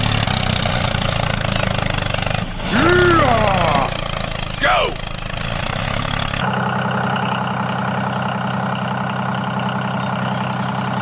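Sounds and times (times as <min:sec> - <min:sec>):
small tractor engine running: 0:00.0 - 0:11.0.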